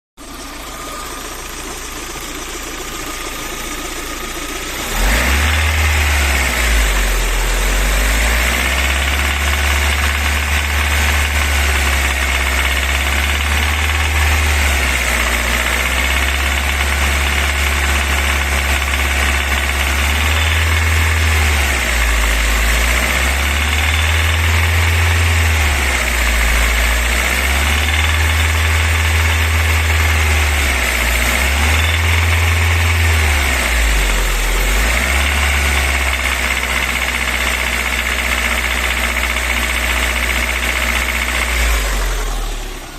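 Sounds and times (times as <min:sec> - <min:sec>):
car engine revving: 0:04.7 - 0:42.9.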